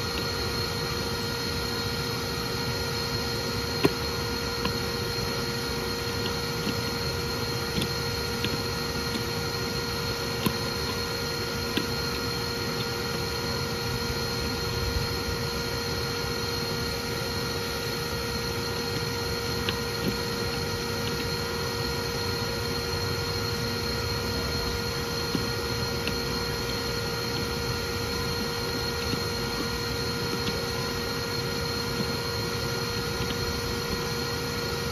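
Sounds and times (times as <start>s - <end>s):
vacuum motor whine: 0.0s - 34.9s.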